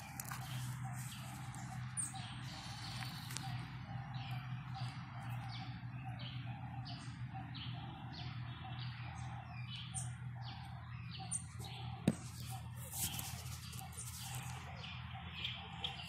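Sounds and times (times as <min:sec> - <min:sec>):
fledgling bird chirping: 0:00.0 - 0:16.0
steady low hum: 0:00.0 - 0:16.0.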